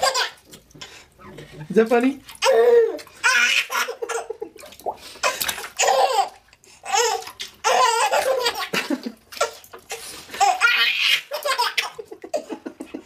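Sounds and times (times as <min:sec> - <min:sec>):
baby laughing: 0:00.0 - 0:00.5, 0:02.4 - 0:13.0.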